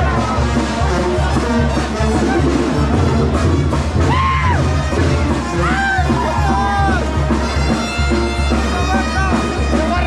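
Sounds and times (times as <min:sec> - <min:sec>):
music with steady drum beat: 0:00.0 - 0:10.0.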